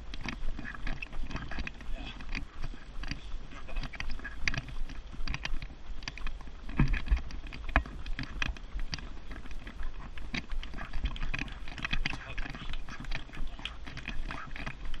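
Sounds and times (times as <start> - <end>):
running footsteps: 0.0 - 15.0
stroller rattling: 0.0 - 15.0.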